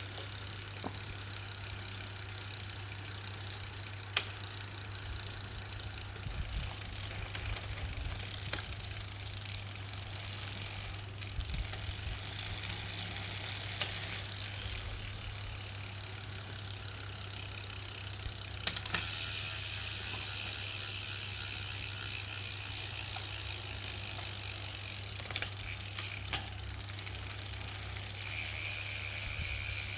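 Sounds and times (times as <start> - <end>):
bicycle drivetrain clicking: 0.0 - 29.9.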